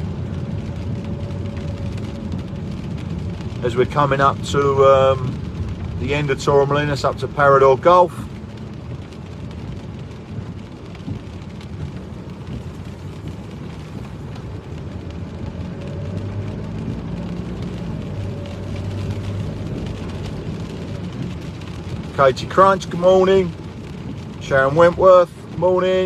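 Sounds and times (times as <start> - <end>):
engine hum: 0.0 - 26.0
tyre noise on wet road: 0.0 - 26.0.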